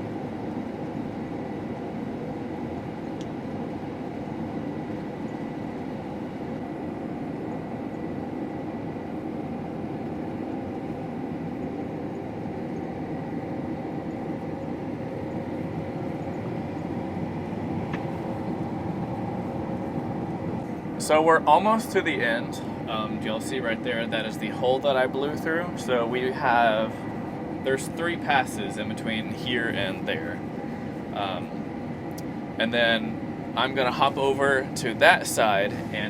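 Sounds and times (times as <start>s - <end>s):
combine harvester drone: 0.0s - 36.0s
faint high whine: 0.0s - 36.0s.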